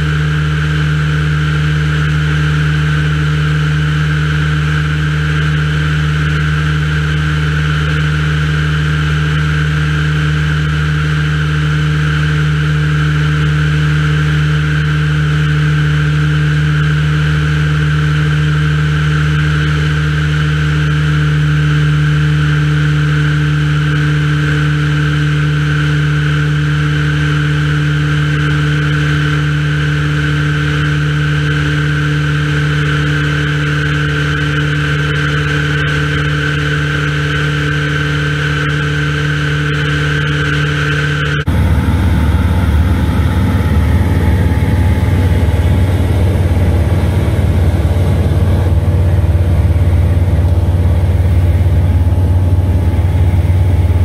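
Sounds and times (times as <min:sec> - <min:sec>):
propeller aircraft engine drone: 0:00.0 - 0:54.0.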